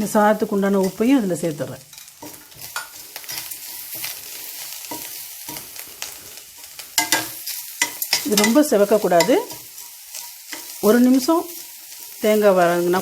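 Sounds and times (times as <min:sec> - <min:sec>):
coconut sizzling in a pan: 0:00.0 - 0:13.0
spatula scraping a pan: 0:00.6 - 0:13.0.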